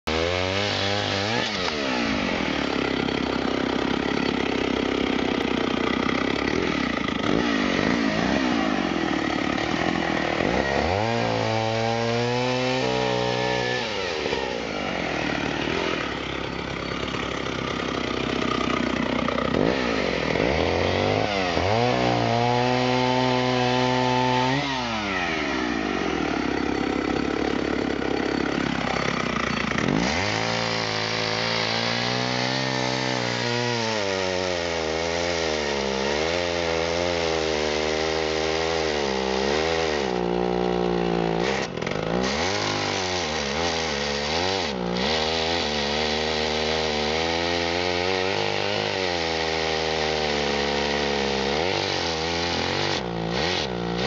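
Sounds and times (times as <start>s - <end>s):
chainsaw cutting tree trunk: 0.1s - 54.0s.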